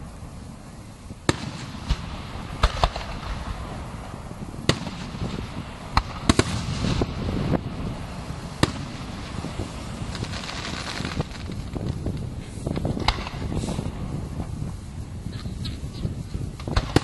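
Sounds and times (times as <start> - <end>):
low rumble: 0.0 - 17.0
firework shells bursting: 1.2 - 17.0.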